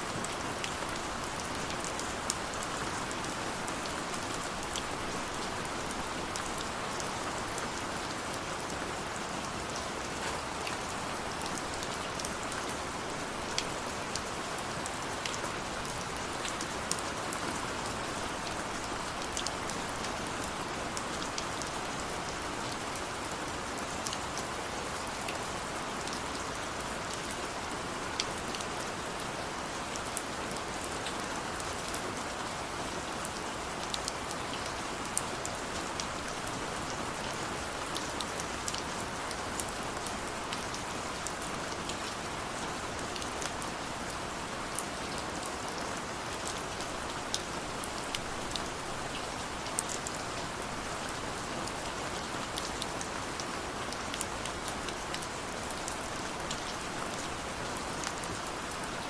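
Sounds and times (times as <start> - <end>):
steady rain on a surface: 0.0 - 59.0.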